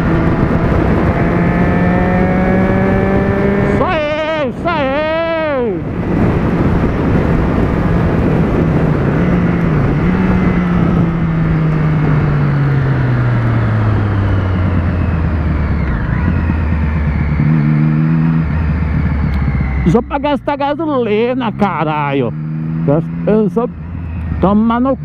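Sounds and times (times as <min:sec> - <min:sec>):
motorcycle engine: 0:00.0 - 0:25.0
wind rushing over microphone: 0:00.0 - 0:25.0.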